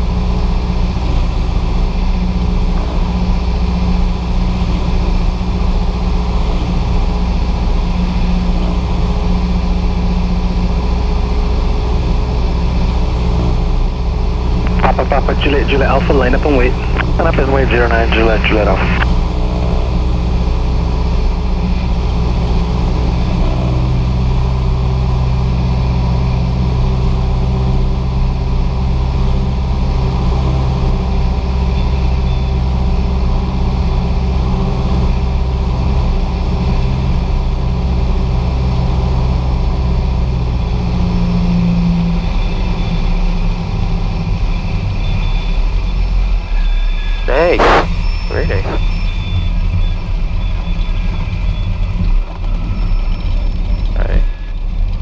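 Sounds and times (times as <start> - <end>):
propeller plane engine running: 0.0 - 46.6.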